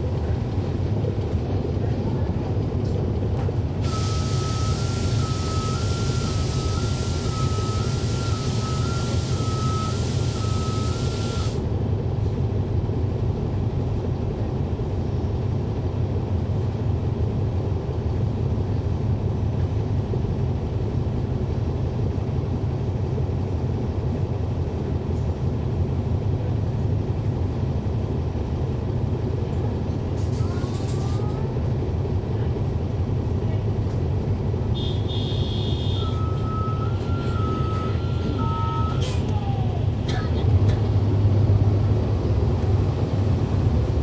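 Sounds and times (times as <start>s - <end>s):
diesel bus engine low rumble: 0.0s - 44.0s.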